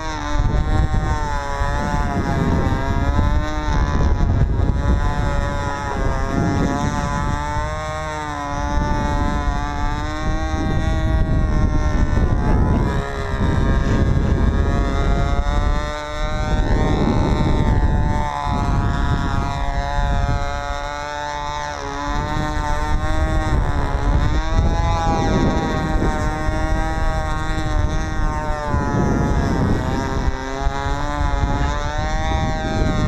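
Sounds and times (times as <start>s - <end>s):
model plane engine running: 0.0s - 33.0s
wind rumble on microphone: 0.0s - 33.0s.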